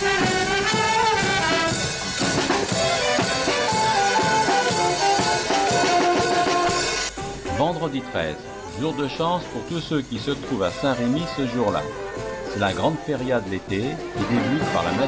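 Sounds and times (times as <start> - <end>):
marching brass band playing: 0.0 - 15.0.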